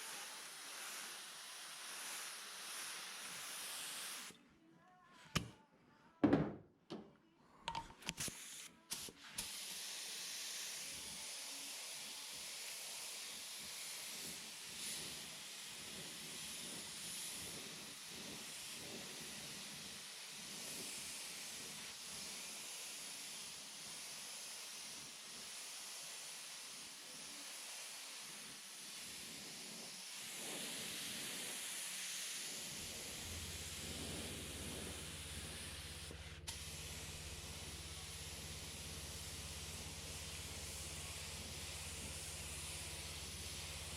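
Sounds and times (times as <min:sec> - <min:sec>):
paint spraying hiss: 0:00.0 - 0:04.4, 0:08.1 - 0:43.9.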